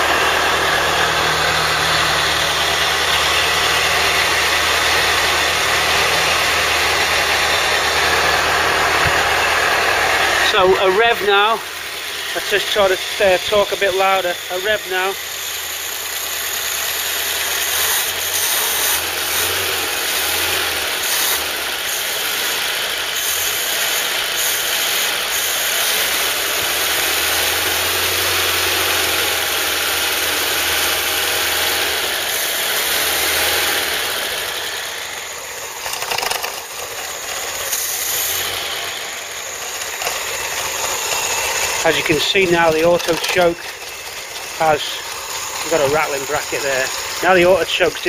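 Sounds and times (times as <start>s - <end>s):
car engine revving: 0.0s - 23.9s, 24.6s - 48.0s.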